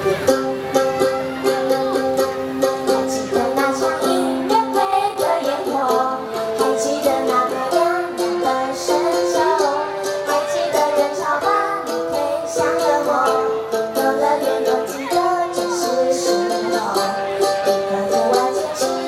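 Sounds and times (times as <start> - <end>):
backing music with steady beat: 0.0 - 19.0
women singing pop song: 2.9 - 19.0.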